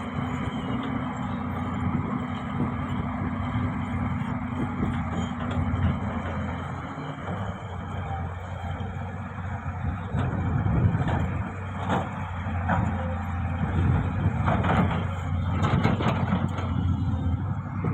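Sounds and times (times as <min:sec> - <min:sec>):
heavy machine engine running: 0:00.0 - 0:17.9.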